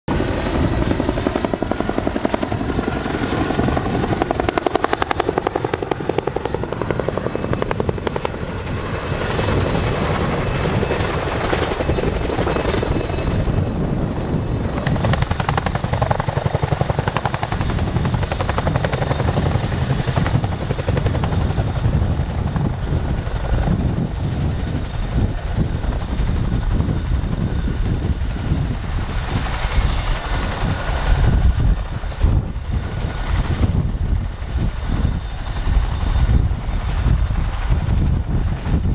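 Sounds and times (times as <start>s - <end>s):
helicopter engines whining: 0.1s - 38.9s
helicopter rotors chopping: 0.1s - 38.9s.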